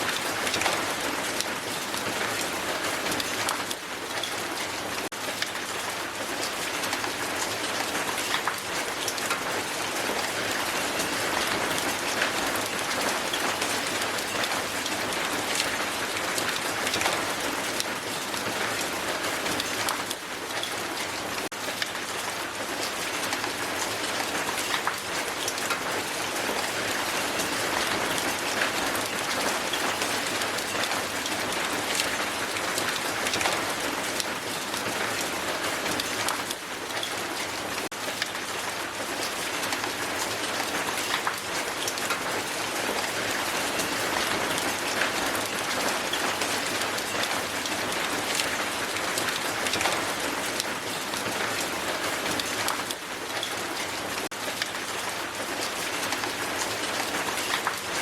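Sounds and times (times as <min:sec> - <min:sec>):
hail pattering on ground: 0:00.0 - 0:58.0.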